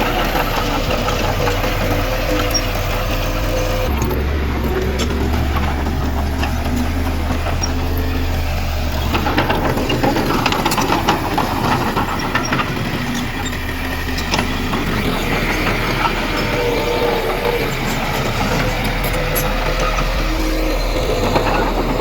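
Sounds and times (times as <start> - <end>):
heavy machinery diesel engine: 0.0 - 22.0
metallic clanks and rattles: 0.2 - 22.0.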